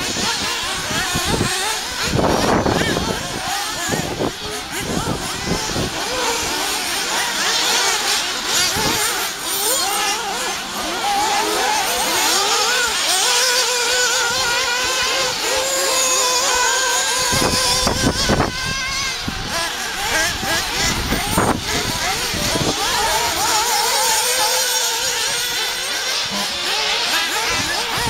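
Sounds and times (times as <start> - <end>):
model car engines buzzing: 0.0 - 28.0.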